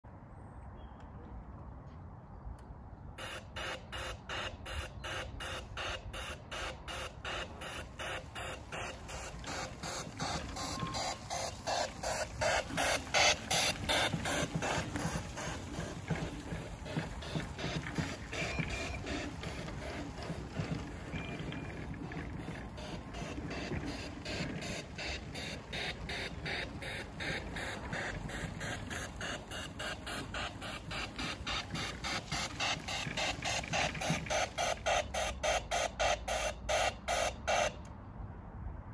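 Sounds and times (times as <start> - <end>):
miniature steam wagon chuffing: 3.2 - 37.8.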